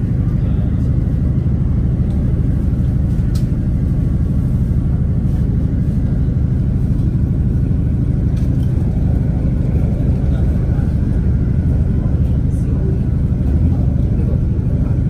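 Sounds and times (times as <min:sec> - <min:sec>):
engine hum: 0:00.0 - 0:15.0
train rumble: 0:00.0 - 0:15.0.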